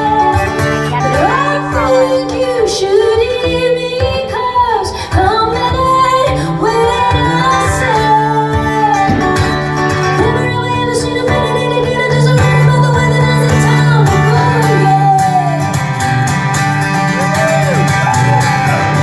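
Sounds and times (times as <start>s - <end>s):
woman singing: 0.0s - 16.4s
guitar accompaniment: 0.0s - 19.0s.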